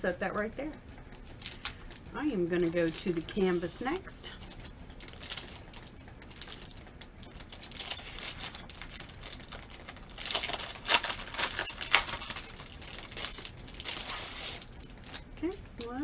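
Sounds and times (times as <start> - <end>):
plastic packaging crinkling: 1.2 - 16.0.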